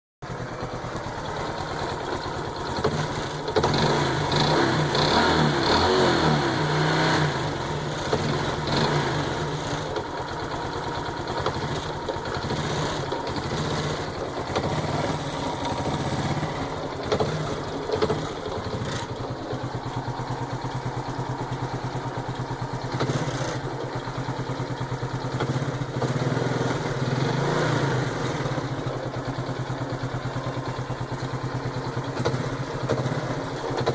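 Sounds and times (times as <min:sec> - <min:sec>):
motorcycle engine running and revving: 0:00.2 - 0:33.9.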